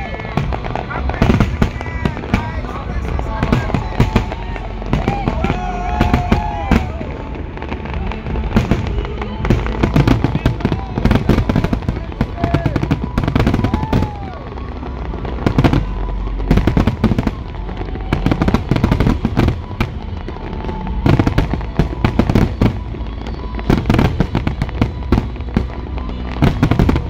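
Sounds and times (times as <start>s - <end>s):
fireworks booming: 0.0s - 27.0s
fireworks crackling: 0.0s - 27.0s
low rumble: 0.0s - 27.0s.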